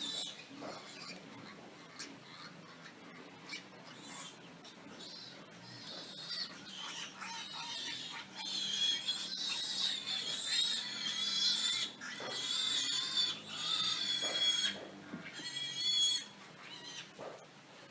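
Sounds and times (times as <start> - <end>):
pigs squealing: 0.0 - 17.2.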